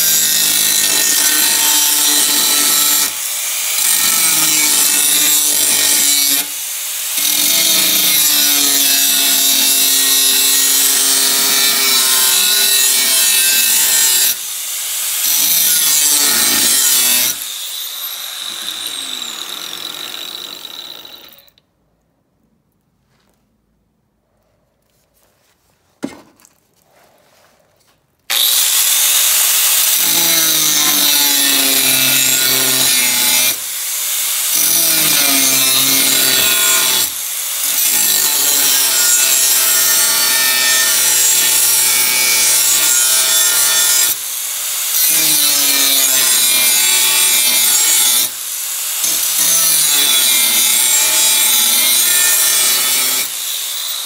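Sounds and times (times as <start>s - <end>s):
angle grinder cutting steel: 0.0s - 21.6s, 28.3s - 54.0s.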